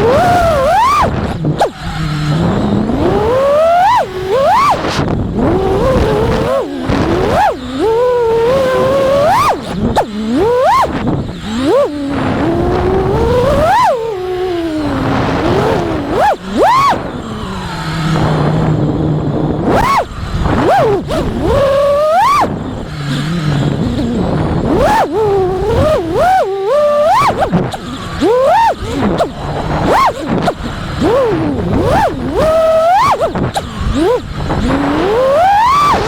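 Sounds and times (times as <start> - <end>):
quadcopter motors whining: 0.0 - 36.0
wind noise: 0.0 - 36.0.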